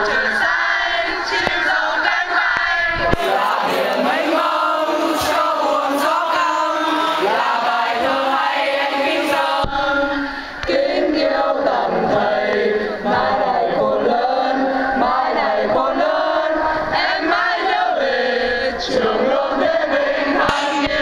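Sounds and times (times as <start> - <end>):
crowd singing in unison: 0.0 - 21.0.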